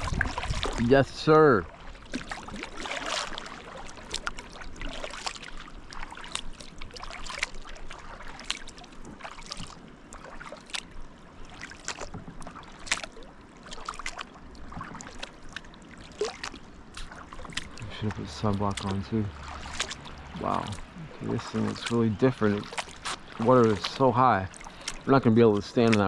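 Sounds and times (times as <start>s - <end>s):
paddle splashes and drips: 0.0s - 26.0s
wash of moving water: 0.0s - 26.0s.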